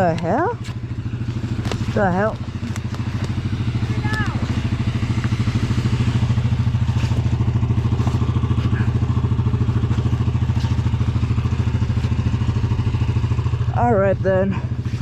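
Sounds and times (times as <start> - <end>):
quad bike engine idling: 0.0 - 15.0.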